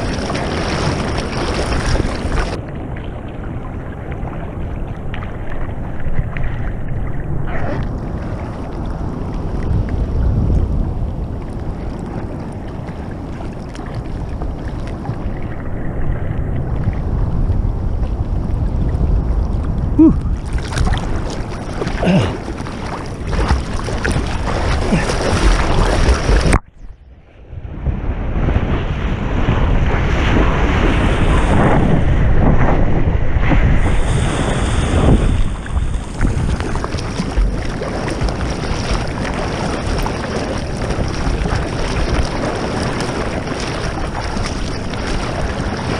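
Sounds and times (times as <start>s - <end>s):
sea water splashing and rushing: 0.0s - 45.9s
wind buffeting microphone: 0.0s - 45.9s.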